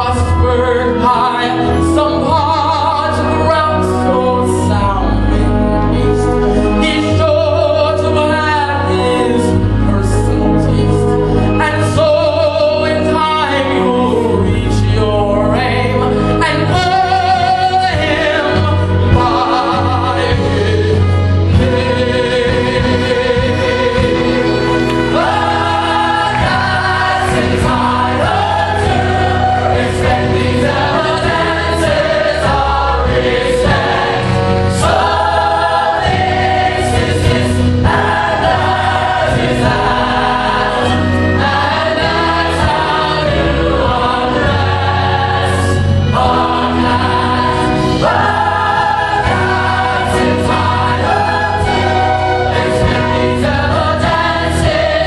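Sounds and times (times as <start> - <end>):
choir singing with instruments: 0.0 - 55.0.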